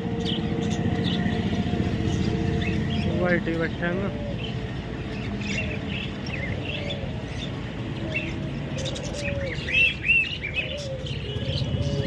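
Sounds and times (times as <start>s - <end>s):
budgerigars chirping: 0.0s - 12.0s
pigeons cooing: 0.0s - 12.0s.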